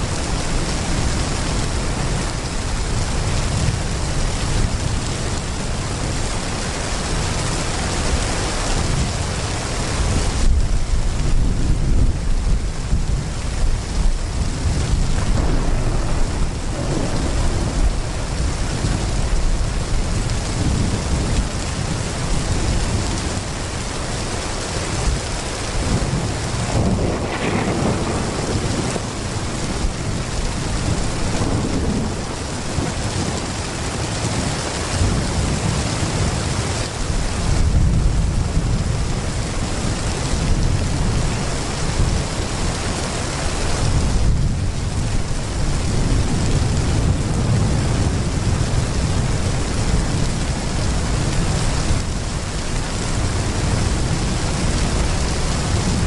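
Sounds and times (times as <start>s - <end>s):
heavy rain pouring: 0.0s - 56.0s
low thunder rumbling: 0.0s - 56.0s.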